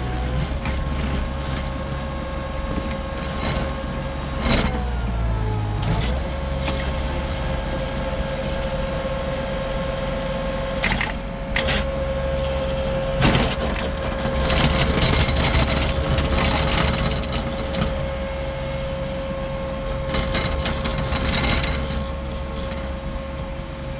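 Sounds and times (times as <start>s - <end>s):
power rake churning soil and stones: 0.0s - 23.9s
track loader running: 0.0s - 23.9s.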